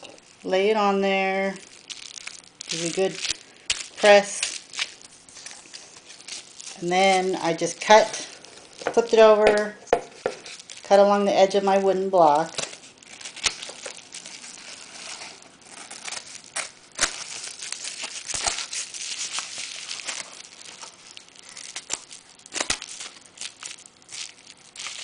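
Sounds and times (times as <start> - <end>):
bubble wrap crinkling: 0.0 - 25.0.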